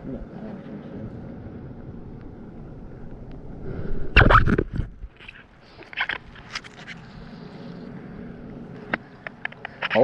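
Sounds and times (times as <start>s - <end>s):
low steady rumble: 0.0s - 5.6s, 6.3s - 9.4s.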